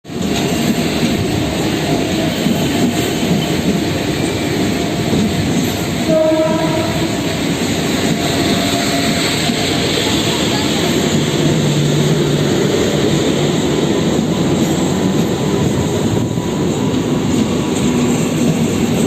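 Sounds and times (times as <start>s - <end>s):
electric train rumbling: 0.0s - 19.0s
rail clatter: 0.1s - 19.0s.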